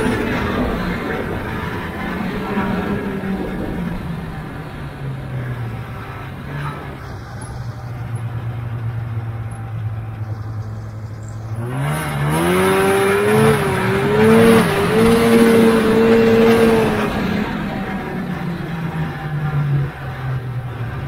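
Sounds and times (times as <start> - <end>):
snowmobile engine idling and revving: 0.0 - 21.0.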